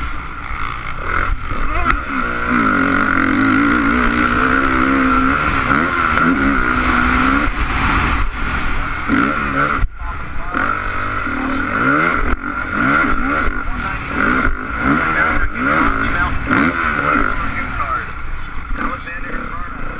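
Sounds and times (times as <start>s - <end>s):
motocross engine revving: 0.0s - 19.9s
rushing wind: 0.0s - 19.9s.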